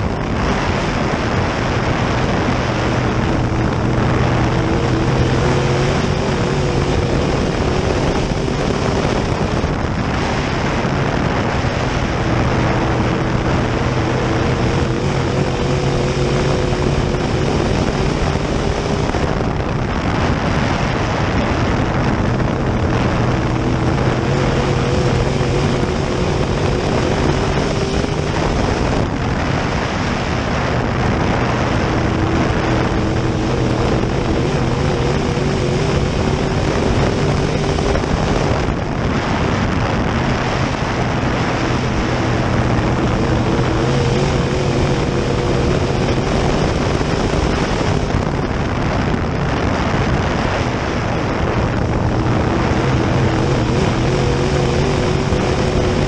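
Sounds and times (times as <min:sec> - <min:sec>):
race car engine under load: 0:00.0 - 0:56.0
rush of noise: 0:00.0 - 0:56.0.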